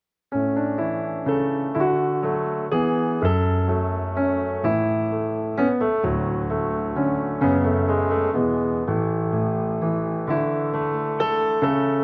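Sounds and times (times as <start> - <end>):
piano music: 0.3 - 12.0.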